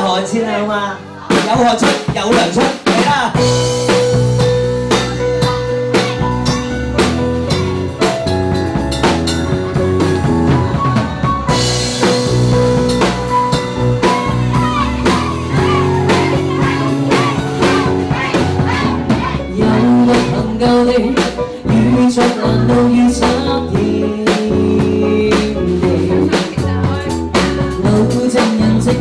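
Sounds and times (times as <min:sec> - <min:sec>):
instrumental backing music: 0:00.0 - 0:29.0.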